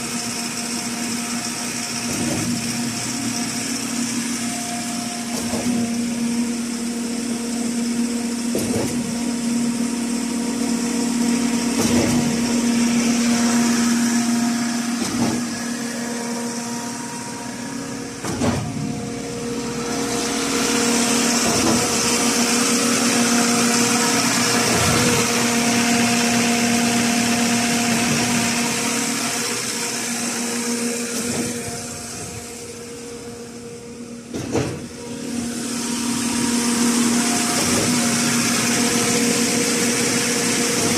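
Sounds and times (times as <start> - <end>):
concrete pump humming: 0.0 - 40.9.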